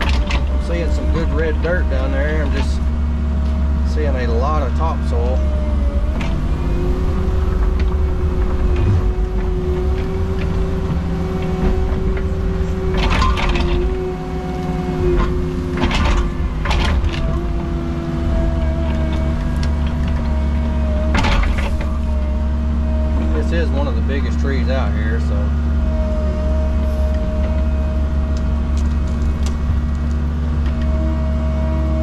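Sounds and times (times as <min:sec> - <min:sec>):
excavator diesel engine whining: 0:00.0 - 0:32.0.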